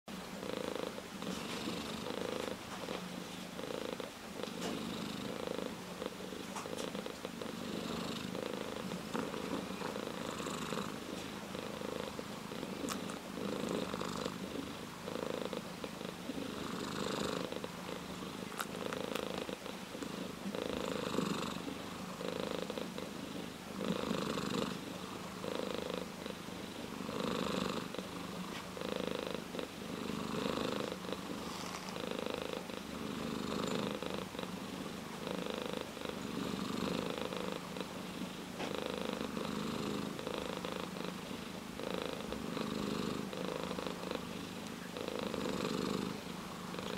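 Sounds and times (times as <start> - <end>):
cat purring: 0.1 - 46.9.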